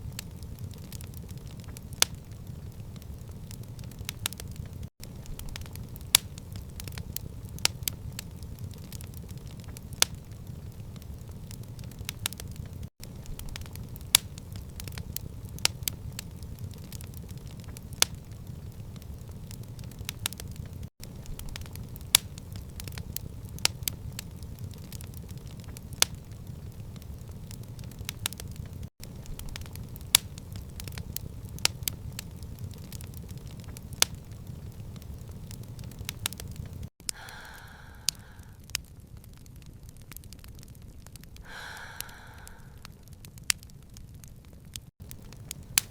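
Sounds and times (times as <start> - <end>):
low rumble of flames: 0.0 - 45.9
wood fire crackling: 0.0 - 45.9.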